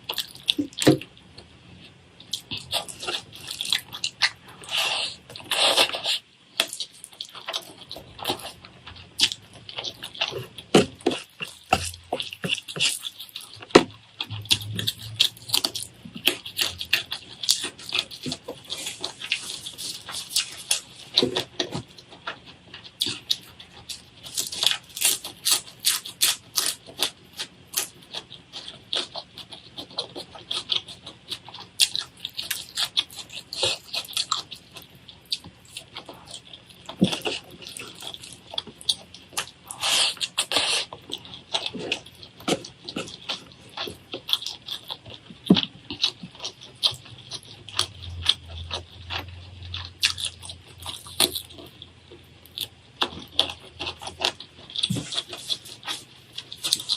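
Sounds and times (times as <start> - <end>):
chewing clicks and smacks: 2.2 - 56.9.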